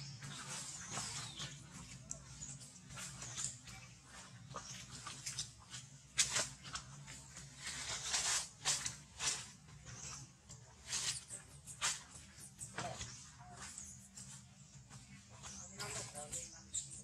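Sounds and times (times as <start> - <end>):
monkeys rustling on dry leaves: 0.0 - 17.0.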